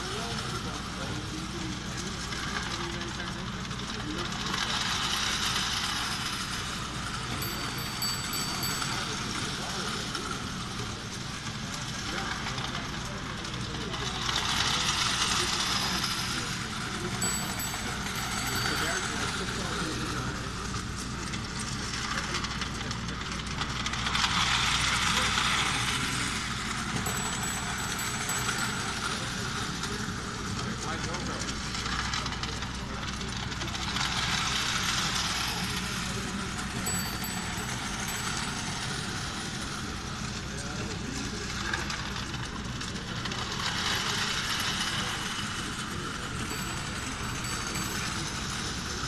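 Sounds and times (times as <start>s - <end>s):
toy train clattering on metal track: 0.0s - 49.0s
voices chatting: 0.0s - 49.0s.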